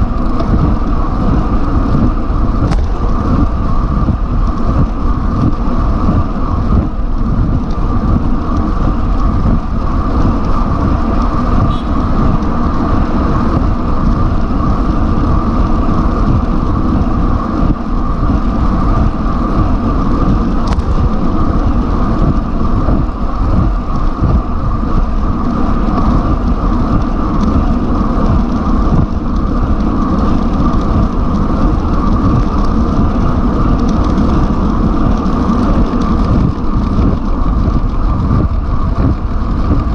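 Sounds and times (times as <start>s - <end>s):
road rumble: 0.0s - 39.9s
wind rush: 0.0s - 39.9s.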